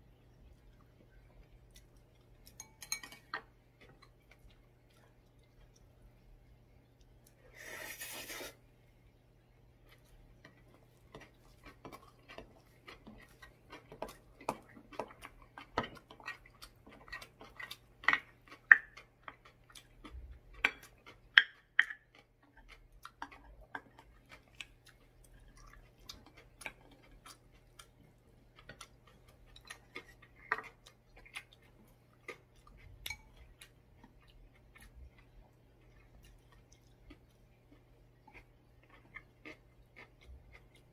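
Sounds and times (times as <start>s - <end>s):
person chewing food: 0.1s - 8.6s, 9.7s - 40.9s.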